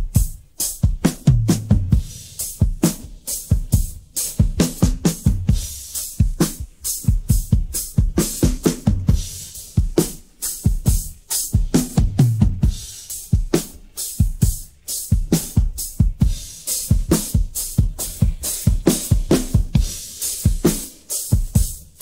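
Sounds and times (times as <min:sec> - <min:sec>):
rock drum kit groove: 0:00.0 - 0:22.0.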